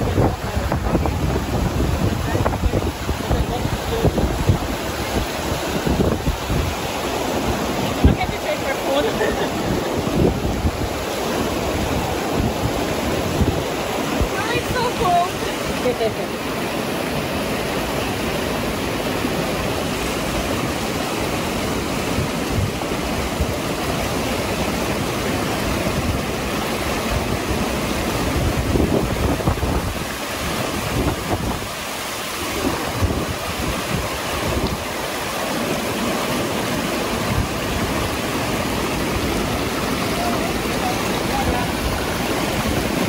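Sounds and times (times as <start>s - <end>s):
mountain stream rushing: 0.0s - 43.0s
wind gusts on microphone: 0.0s - 43.0s.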